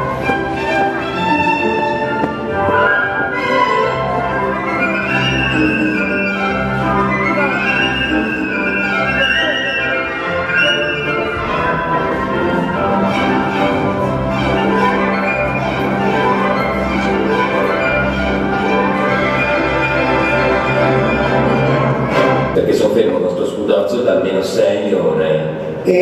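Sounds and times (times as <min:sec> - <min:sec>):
orchestral music with violins: 0:00.0 - 0:25.8.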